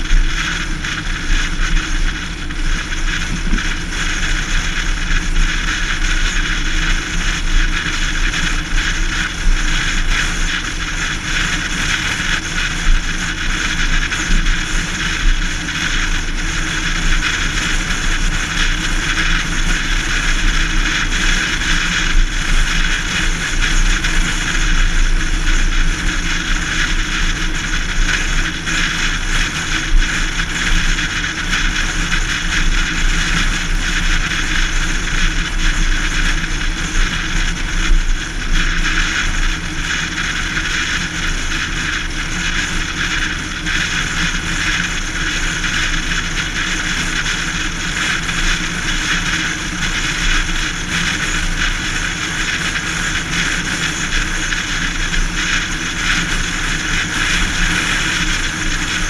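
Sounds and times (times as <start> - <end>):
rushing wind: 0.0 - 59.0.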